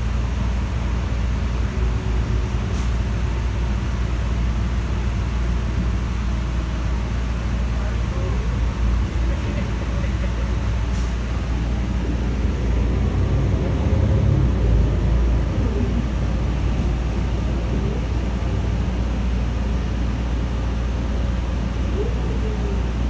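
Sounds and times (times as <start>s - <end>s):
bus engine rumble: 0.0s - 23.0s
road noise: 0.0s - 23.0s.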